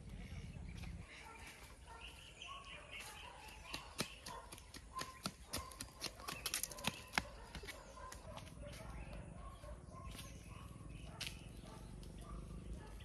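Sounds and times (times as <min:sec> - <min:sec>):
footsteps on pavement: 0:00.6 - 0:12.1.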